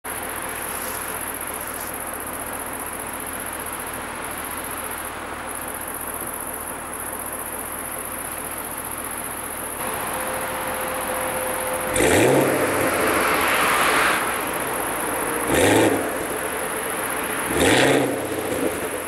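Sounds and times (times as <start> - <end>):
insects chirring: 0.1 - 19.0.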